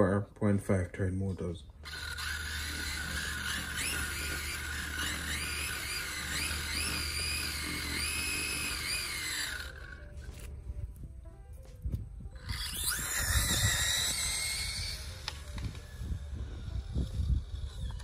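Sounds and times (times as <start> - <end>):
high-pitched electric motor whine: 1.7 - 10.8, 12.2 - 18.0.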